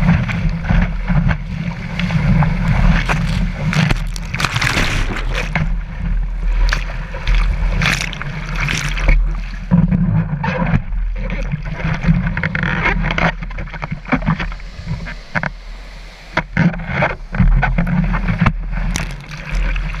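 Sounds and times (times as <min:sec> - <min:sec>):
seawater splashing around surfboard: 0:00.0 - 0:15.2, 0:16.4 - 0:20.0
low rumble of water buffeting: 0:00.0 - 0:20.0.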